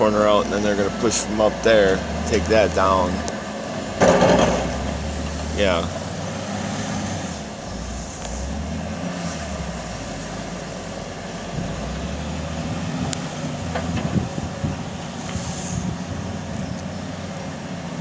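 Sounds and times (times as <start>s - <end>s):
distant heavy diesel machines: 0.0s - 18.0s.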